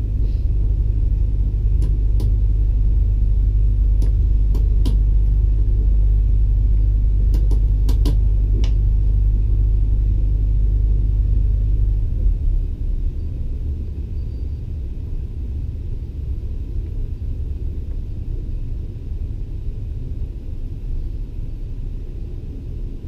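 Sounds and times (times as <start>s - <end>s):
electric locomotive rumble in cab: 0.0s - 23.0s.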